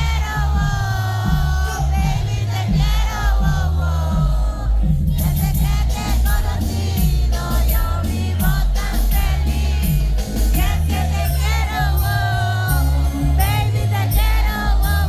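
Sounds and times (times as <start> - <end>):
crowd voices: 0.0 - 15.0
heavy bass beat: 0.0 - 15.0
sung vocal melody: 0.0 - 15.0.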